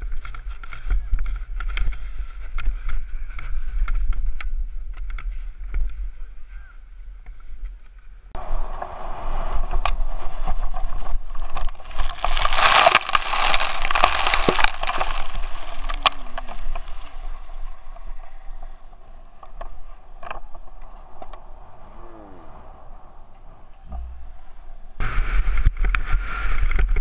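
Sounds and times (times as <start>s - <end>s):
skis scraping over snow: 0.0s - 23.8s, 25.0s - 27.0s
wind rumble on microphone: 0.0s - 27.0s.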